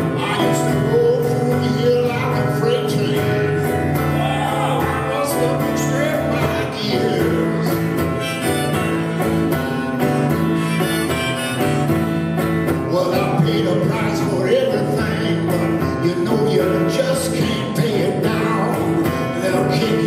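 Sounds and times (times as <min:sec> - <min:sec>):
man singing: 0:00.0 - 0:11.1, 0:12.7 - 0:20.0
acoustic guitar strumming: 0:00.0 - 0:20.0.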